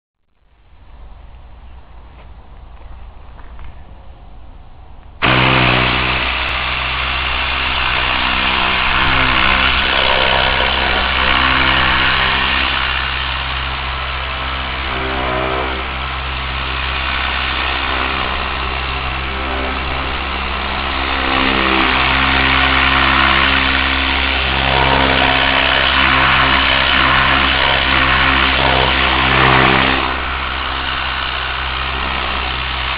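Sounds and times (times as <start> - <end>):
compressed air gun hissing: 5.2 - 32.9.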